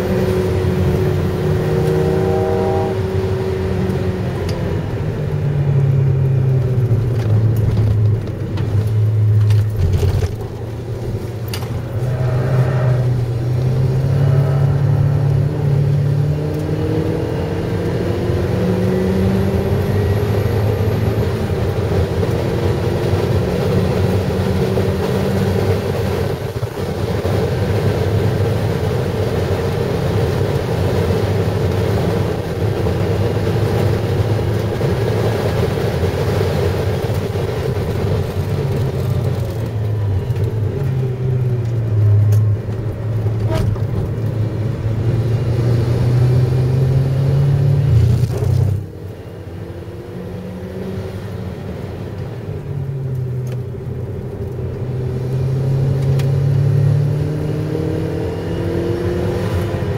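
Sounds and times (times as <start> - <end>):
car engine pulling: 0.0 - 59.9
road noise inside car: 0.0 - 59.9.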